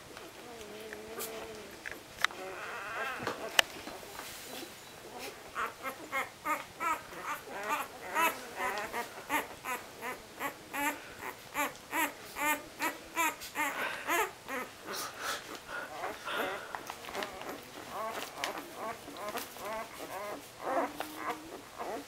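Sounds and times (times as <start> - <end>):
puppies whining and squeaking: 0.2 - 15.0, 15.9 - 22.0.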